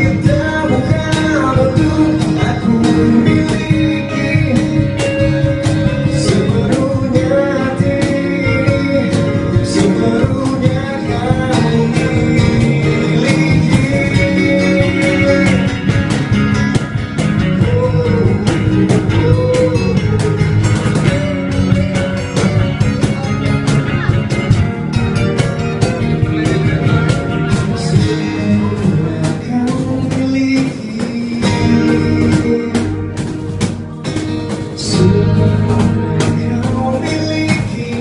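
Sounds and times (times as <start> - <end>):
man singing into microphone: 0.0 - 16.5, 17.4 - 24.2, 25.8 - 38.0
electric bass guitar: 0.0 - 38.0
strummed acoustic guitar: 0.0 - 38.0.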